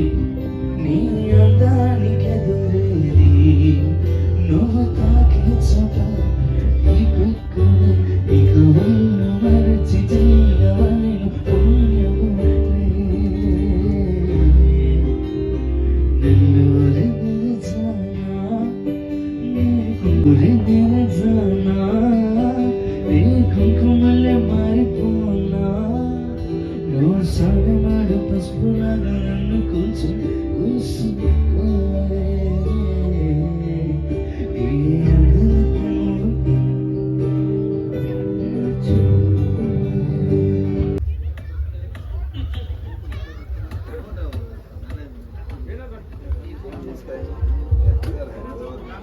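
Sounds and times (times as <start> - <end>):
person singing: 0.0 - 41.0
heavy bass: 0.0 - 45.0
band music over loudspeakers: 0.0 - 49.0
guitar: 0.0 - 49.0.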